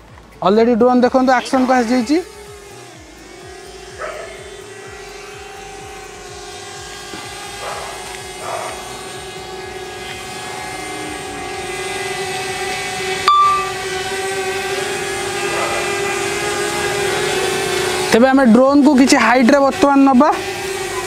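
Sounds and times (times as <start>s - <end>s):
drone propeller whine: 0.8s - 21.0s.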